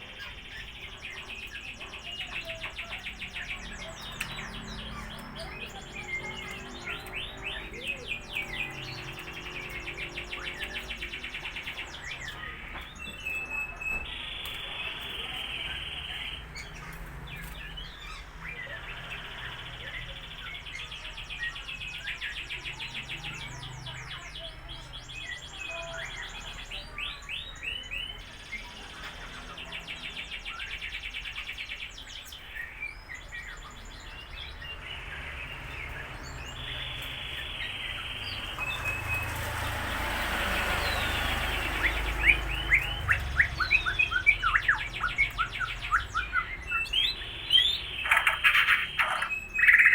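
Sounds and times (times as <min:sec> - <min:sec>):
lovebirds chattering: 0:00.0 - 0:49.9.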